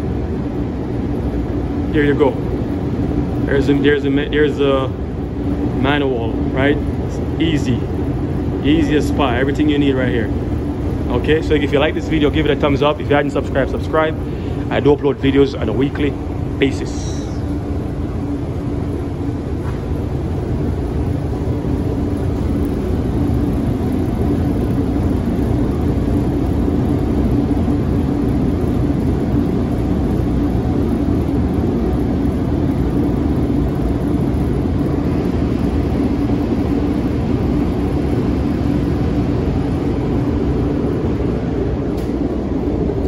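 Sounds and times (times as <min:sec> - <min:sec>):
constant low hum: 0:00.0 - 0:43.0
hvac fan and airflow: 0:00.0 - 0:43.0.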